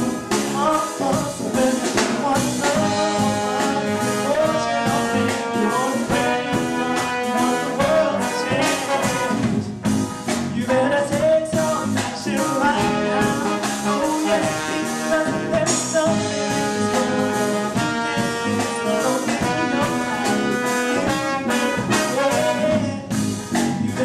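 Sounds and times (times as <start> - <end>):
reggae band playing: 0.0 - 24.0
trumpet and trombone horn line: 0.0 - 24.0.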